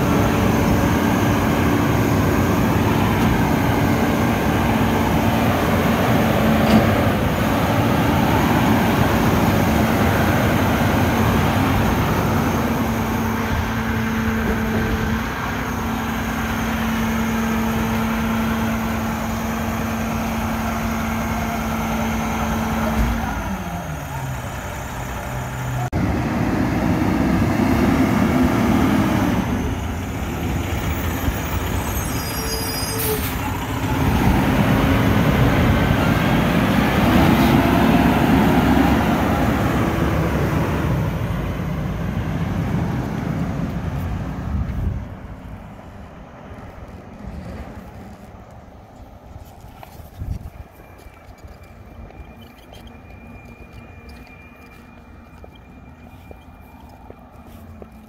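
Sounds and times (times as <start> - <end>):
garbage truck diesel engine: 0.0 - 58.0.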